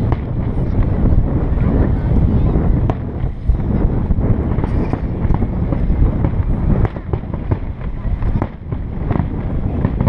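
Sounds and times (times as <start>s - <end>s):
fireworks bangs: 0.0s - 10.0s
heavy low rumble: 0.0s - 10.0s.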